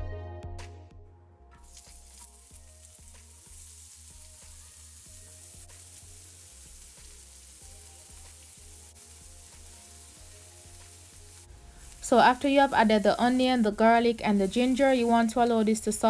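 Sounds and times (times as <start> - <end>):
soft music with low beat: 0.0 - 16.0
onion sizzling in hot oil: 1.6 - 16.0.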